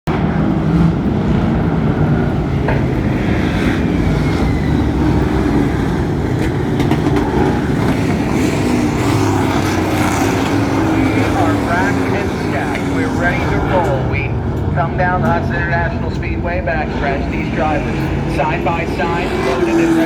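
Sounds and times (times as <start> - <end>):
racing truck engines rumbling: 0.1 - 20.0.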